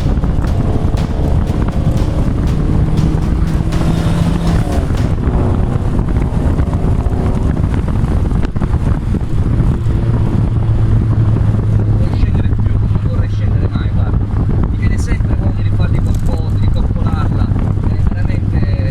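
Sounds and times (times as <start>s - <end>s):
car engine rumble: 0.0s - 18.9s
road and wind noise: 0.0s - 18.9s.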